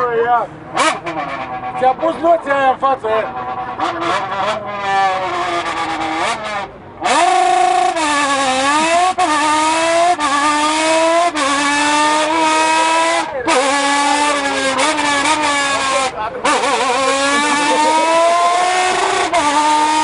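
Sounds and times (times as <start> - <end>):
man imitating car engine revving: 3.2 - 20.0.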